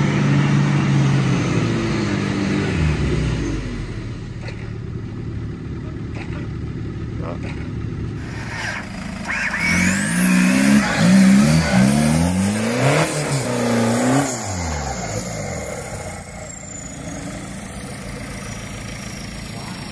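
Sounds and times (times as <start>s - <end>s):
buggy engine revving: 0.0s - 19.9s.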